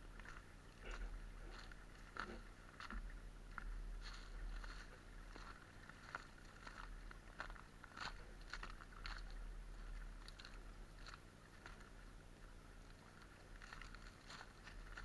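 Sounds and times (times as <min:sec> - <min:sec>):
steady low rumble: 0:00.0 - 0:15.0
footsteps crunching in snow: 0:00.2 - 0:11.8, 0:13.1 - 0:15.0.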